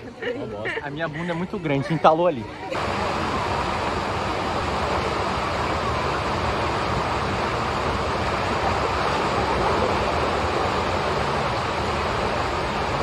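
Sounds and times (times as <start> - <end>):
pool water rushing and splashing: 0.0 - 13.0.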